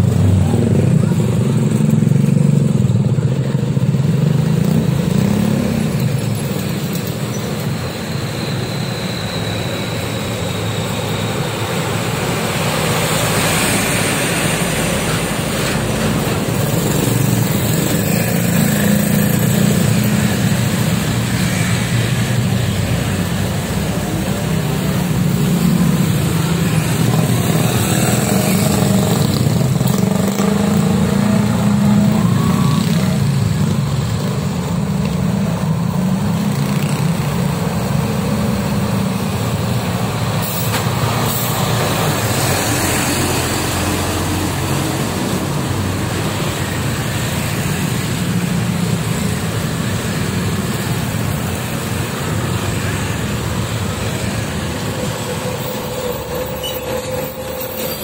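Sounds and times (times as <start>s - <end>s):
car engines humming: 0.0s - 58.0s
motorcycles and scooters passing: 0.0s - 58.0s
truck passing: 7.8s - 58.0s.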